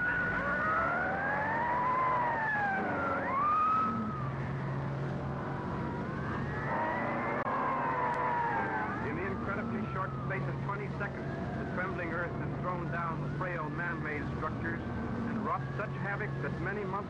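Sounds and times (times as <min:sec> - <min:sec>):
emergency sirens wailing: 0:00.0 - 0:17.0.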